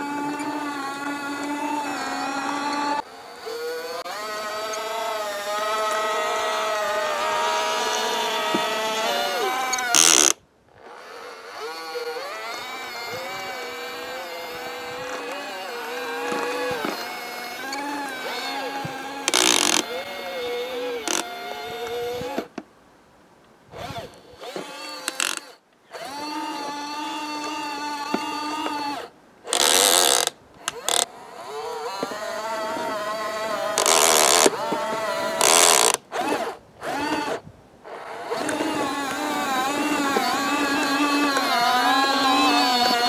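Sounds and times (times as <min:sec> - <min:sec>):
toy electric motor whining: 0:00.0 - 0:22.5, 0:23.7 - 0:43.0.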